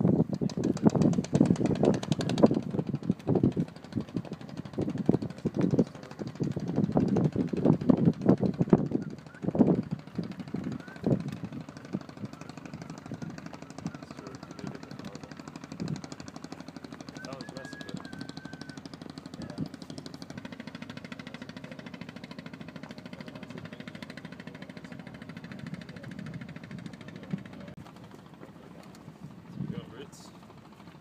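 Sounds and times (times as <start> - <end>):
boat diesel engine running: 0.0 - 31.0.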